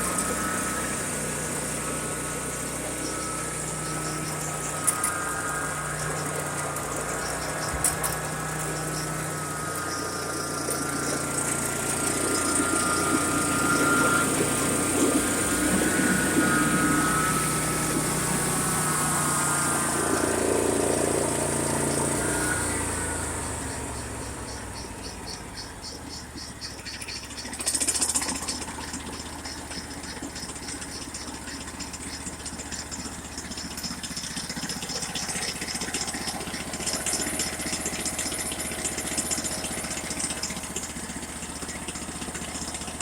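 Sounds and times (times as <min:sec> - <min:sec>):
wood chipper engine running: 0:00.0 - 0:43.0.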